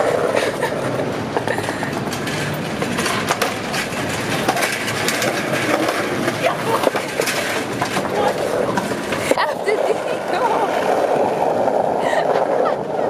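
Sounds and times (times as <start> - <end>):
metal hand truck rattling: 0.0 - 11.5
city street traffic: 0.0 - 13.0
skateboard wheels rolling on paving: 0.0 - 13.0.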